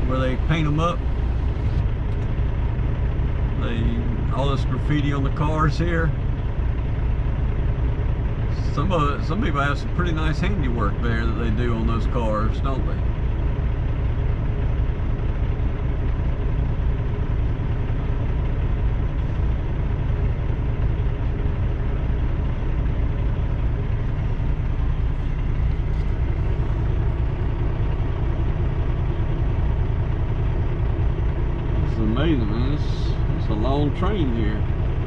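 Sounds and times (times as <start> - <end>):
diesel truck engine idling: 0.0 - 35.0.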